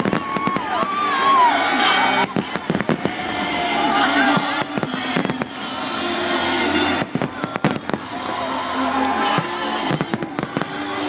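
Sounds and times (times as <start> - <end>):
crowd voices: 0.0 - 11.0
fireworks bangs and crackling: 0.0 - 11.0
music playing: 0.0 - 11.0.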